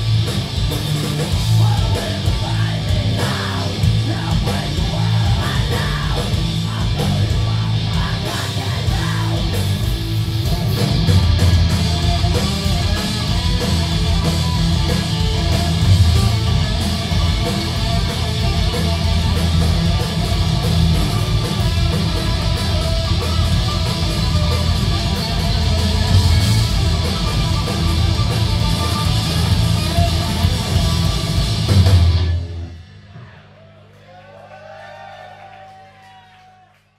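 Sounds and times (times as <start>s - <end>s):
electric guitars: 0.0s - 32.9s
rock band playing loudly: 0.0s - 33.0s
bass guitar: 0.0s - 33.4s
drums: 0.0s - 34.1s.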